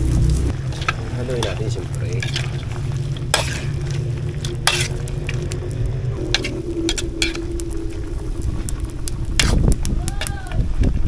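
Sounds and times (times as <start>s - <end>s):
steady sizzle: 0.0s - 11.0s
metal ladle scraping a wok: 0.6s - 9.7s.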